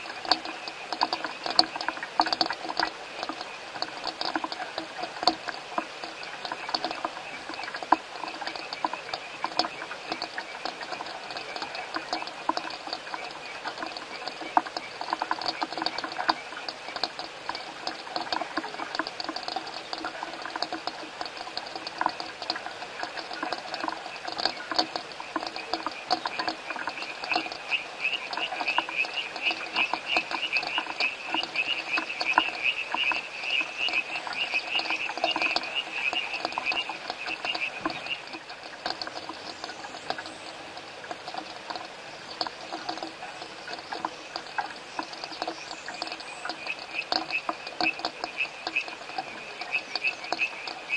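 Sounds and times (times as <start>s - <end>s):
frogs calling: 0.0s - 50.9s
rain pattering: 0.0s - 50.9s.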